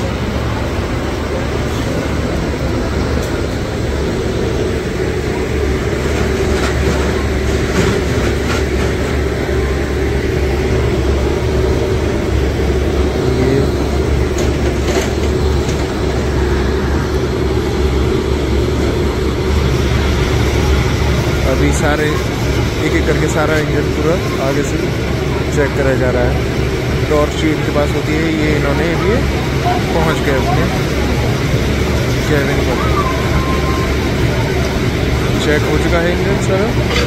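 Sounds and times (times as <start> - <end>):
electric locomotive humming: 0.0 - 37.0.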